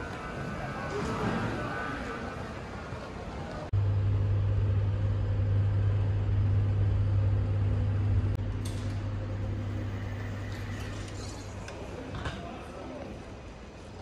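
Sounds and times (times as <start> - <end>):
elevator hum: 0.0 - 12.0.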